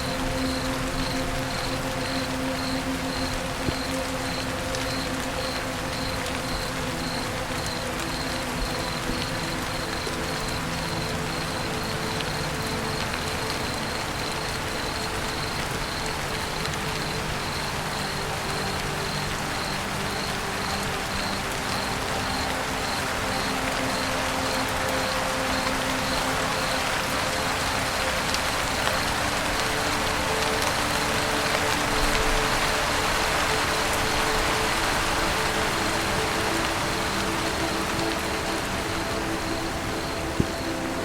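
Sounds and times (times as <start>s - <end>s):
rain on a roof: 0.0s - 41.0s.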